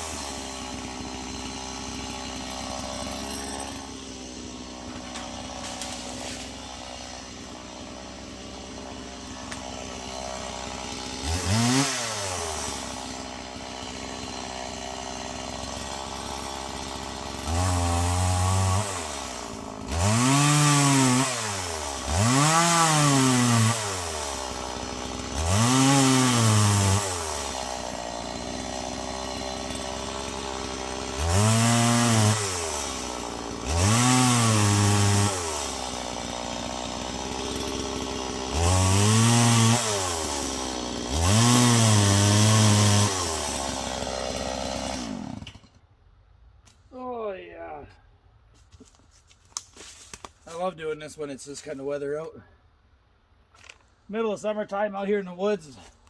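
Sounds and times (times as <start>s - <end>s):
chainsaw revving: 0.0s - 45.8s.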